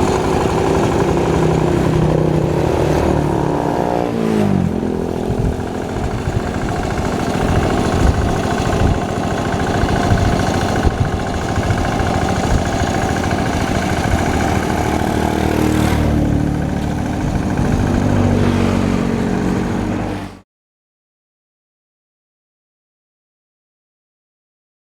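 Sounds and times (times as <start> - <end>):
tractor engine clattering: 0.0 - 20.2.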